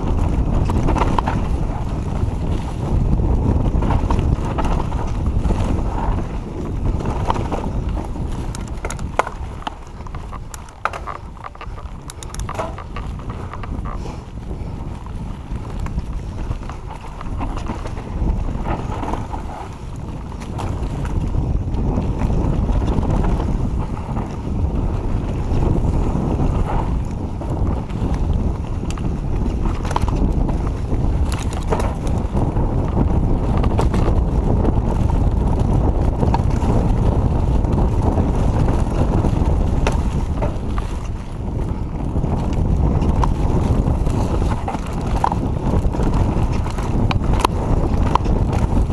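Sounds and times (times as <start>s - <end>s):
bike rattling over rocks: 0.0s - 48.9s
tyres rumbling over dirt: 0.0s - 48.9s
wind buffeting microphone: 0.0s - 48.9s.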